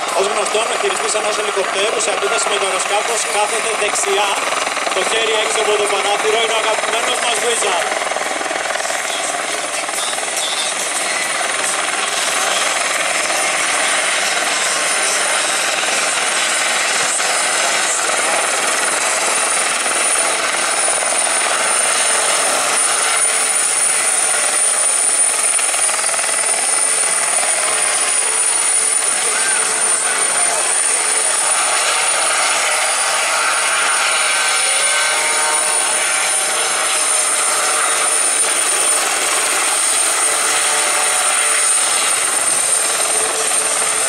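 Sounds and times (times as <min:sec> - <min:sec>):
helicopter rotor and turbine noise: 0:00.0 - 0:44.0.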